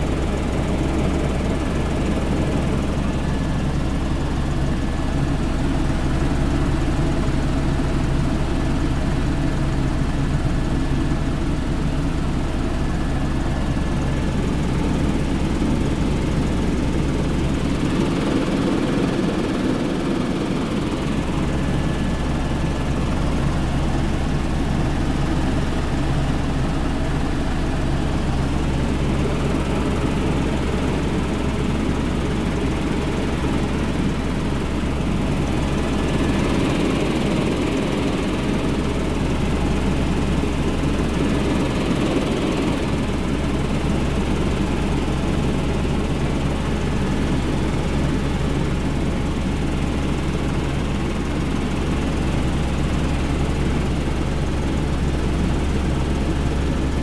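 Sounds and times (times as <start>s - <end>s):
helicopter engine and rotor drone: 0.0s - 57.0s
thin steady whine: 0.0s - 57.0s.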